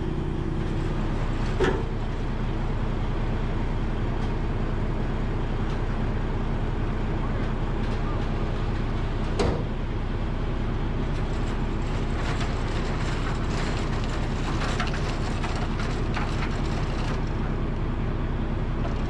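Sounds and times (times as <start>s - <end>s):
tow truck engine running: 0.0s - 19.0s.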